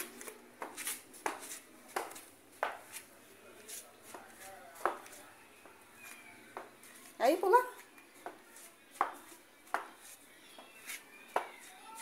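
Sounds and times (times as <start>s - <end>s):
footsteps on concrete: 0.0s - 12.0s.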